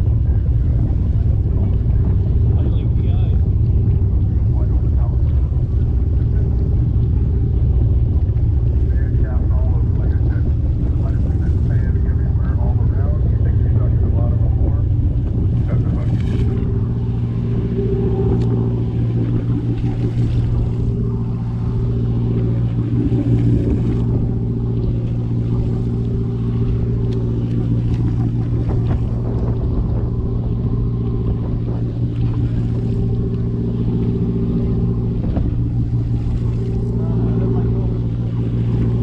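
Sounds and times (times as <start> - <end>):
boat engine drone: 0.0 - 39.0
water rushing: 0.0 - 39.0
wind: 0.0 - 39.0.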